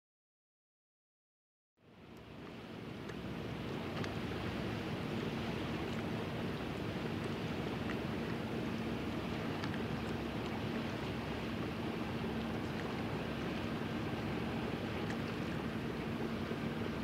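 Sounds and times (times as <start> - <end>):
faint steady hum: 1.8 - 17.0
water: 1.8 - 17.0
wind: 1.8 - 17.0.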